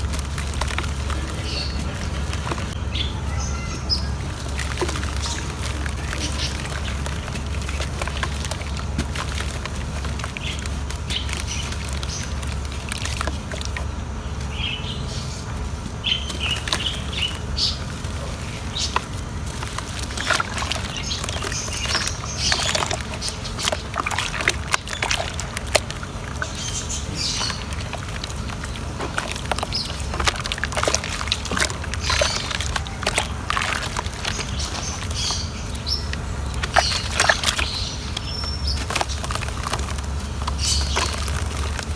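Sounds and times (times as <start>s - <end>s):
cement crackling in water: 0.0s - 41.9s
water sloshing: 0.0s - 41.9s.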